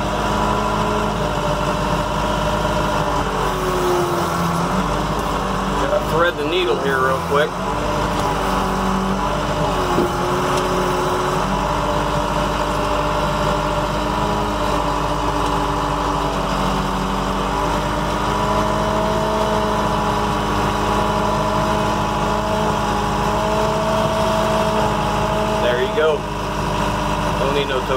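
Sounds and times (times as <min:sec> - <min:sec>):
tow truck engine running: 0:00.0 - 0:27.9.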